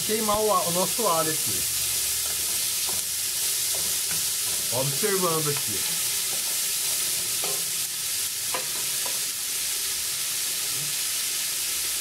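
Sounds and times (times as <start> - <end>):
meat and onion sizzling in oil: 0.0 - 12.0.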